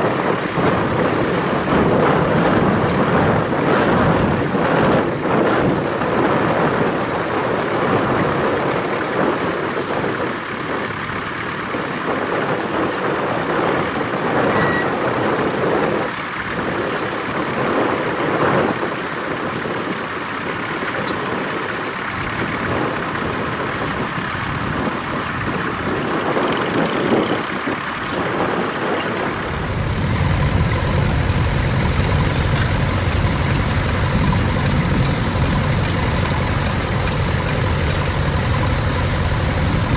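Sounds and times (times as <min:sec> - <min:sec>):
deeper tractor engine approaching: 0:00.0 - 0:39.9
tractor engine running: 0:00.0 - 0:39.9.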